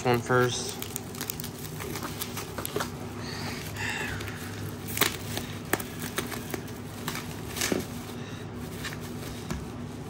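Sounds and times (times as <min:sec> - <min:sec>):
wrapping rustling: 0:00.1 - 0:10.0.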